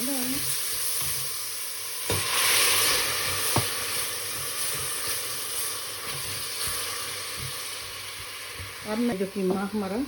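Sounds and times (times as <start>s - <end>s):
onion sizzling in fat: 0.0s - 10.0s.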